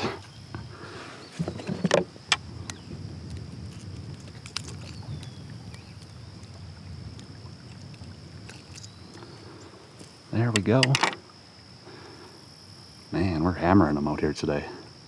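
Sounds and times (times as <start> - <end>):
low rumble of wind and water: 0.0 - 15.0.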